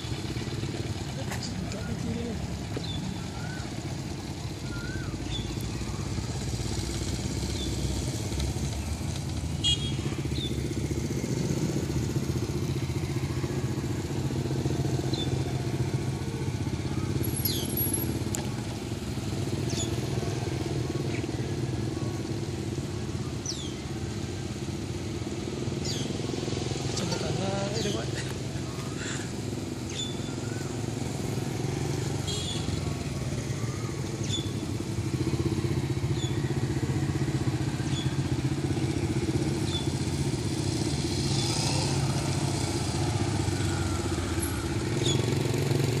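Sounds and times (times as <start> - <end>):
motorcycle engines running: 0.0 - 46.0.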